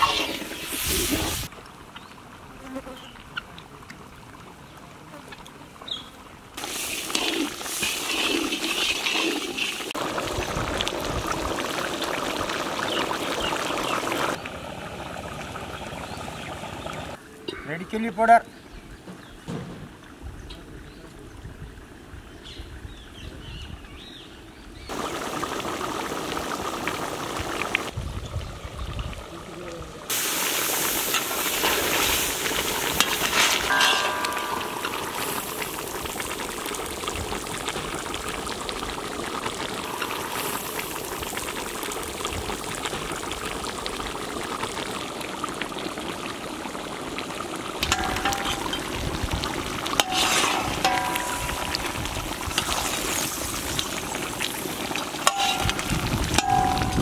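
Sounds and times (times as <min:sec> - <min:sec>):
curry bubbling and sizzling: 0:00.0 - 0:17.3, 0:24.8 - 0:57.0.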